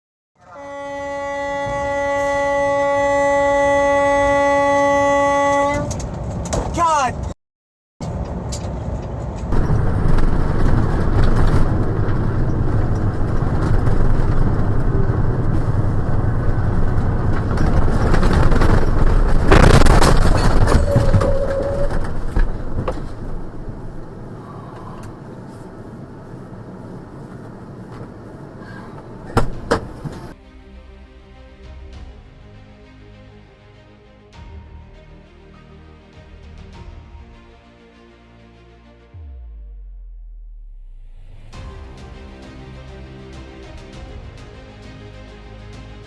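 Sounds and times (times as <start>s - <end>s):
vehicle engine and road noise: 5.4s - 7.4s, 8.0s - 46.0s.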